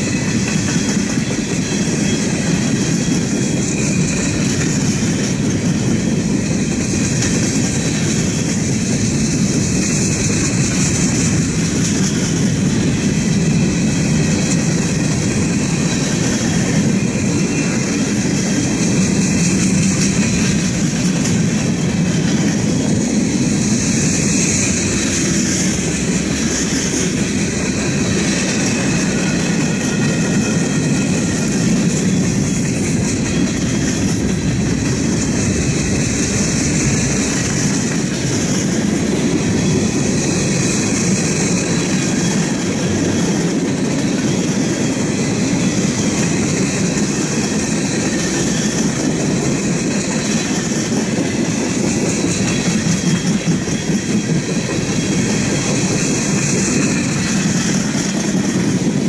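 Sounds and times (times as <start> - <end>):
steel wheels clattering over rail joints: 0.0 - 59.0.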